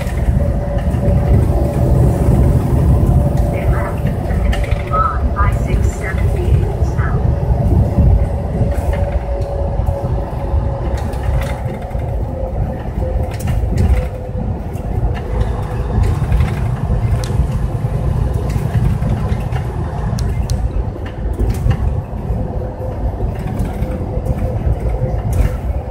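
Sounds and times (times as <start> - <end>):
truck engine and road rumble: 0.0 - 25.9.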